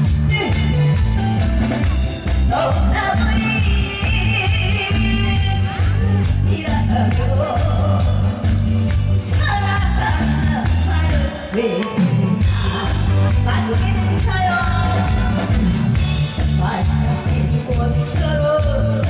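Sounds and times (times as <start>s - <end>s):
backing track with steady beat: 0.0s - 19.0s
person singing live: 0.0s - 19.0s.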